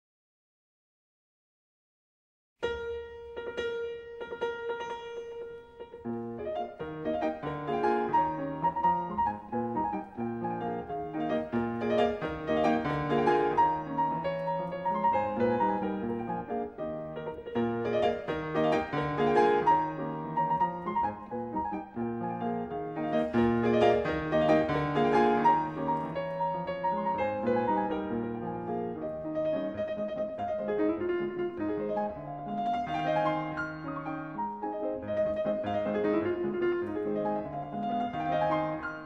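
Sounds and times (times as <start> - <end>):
piano music: 2.6 - 39.0.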